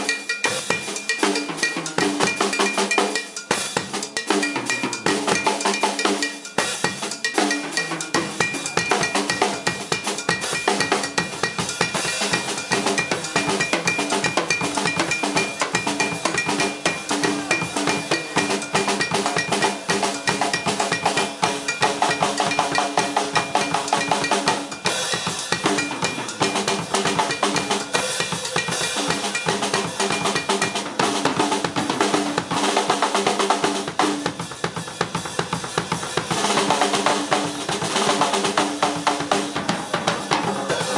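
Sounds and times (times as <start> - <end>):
cowbell ringing: 0.0 - 34.0, 35.4 - 40.9
fast drum kit playing: 0.0 - 40.9.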